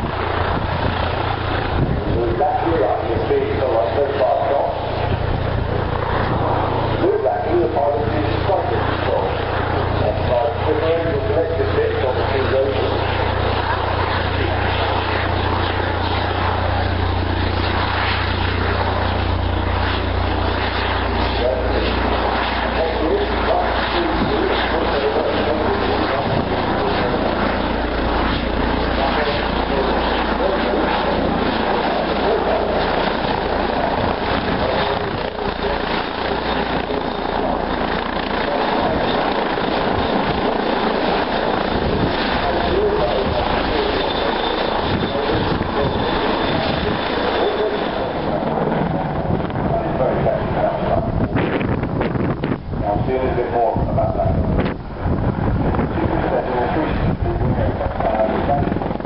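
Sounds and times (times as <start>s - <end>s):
aircraft engine noise: 0.0s - 59.0s.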